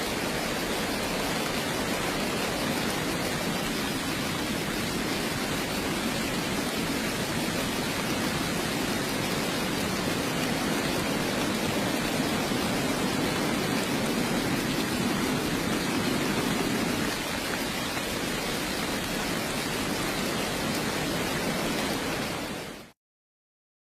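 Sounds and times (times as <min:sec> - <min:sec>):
heavy rainfall: 0:00.0 - 0:23.0.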